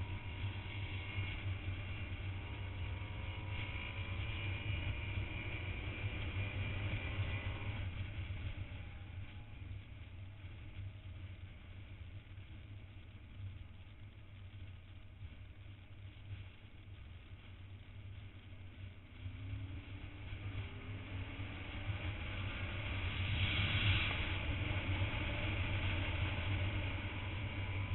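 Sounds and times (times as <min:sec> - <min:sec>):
motorcycle engine running: 0:00.0 - 0:27.9
wind and road noise rumble: 0:00.0 - 0:27.9.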